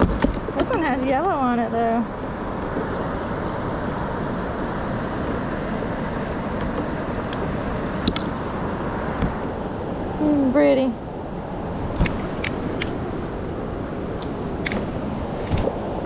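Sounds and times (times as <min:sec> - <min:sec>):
river water rushing: 0:00.0 - 0:10.2, 0:11.0 - 0:16.0.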